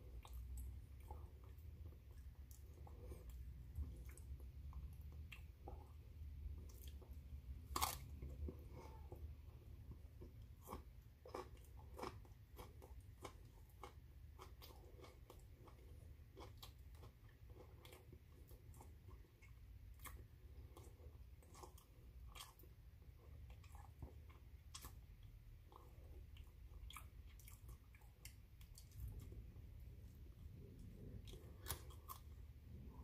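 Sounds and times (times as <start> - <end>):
person chewing crunchy broccoli: 0.0 - 33.0.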